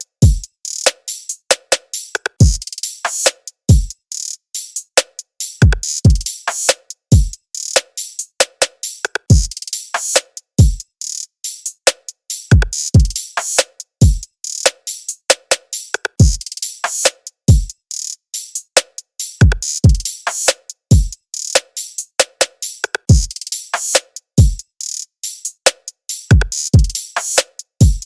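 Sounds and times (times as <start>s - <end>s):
crisp hi-hat ticks: 0.0s - 28.0s.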